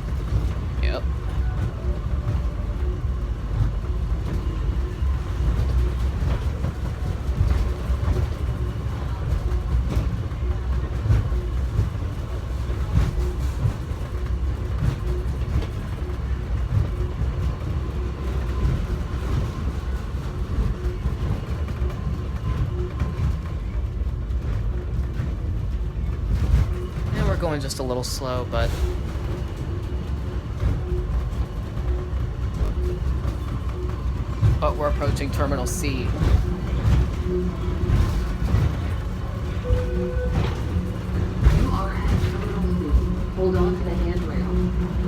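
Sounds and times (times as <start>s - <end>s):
train car rumbling: 0.0s - 45.0s.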